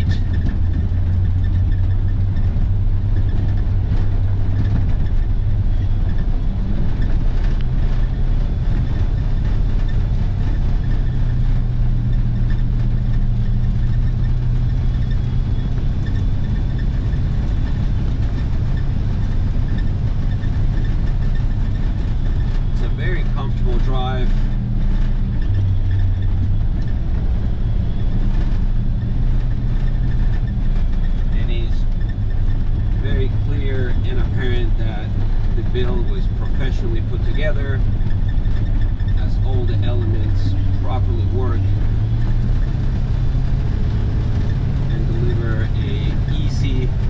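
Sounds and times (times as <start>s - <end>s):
road noise: 0.0s - 47.0s
truck engine running: 0.0s - 47.0s.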